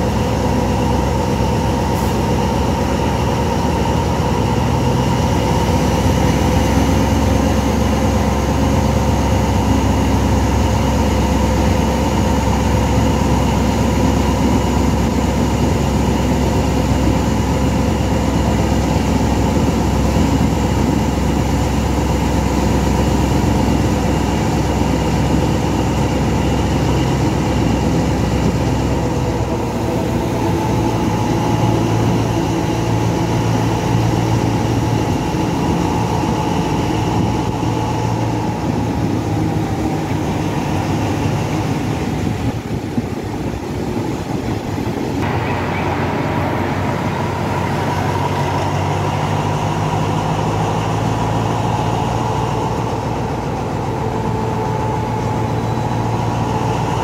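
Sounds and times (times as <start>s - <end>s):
locomotive engine droning: 0.0s - 57.0s
rail noise: 0.0s - 57.0s.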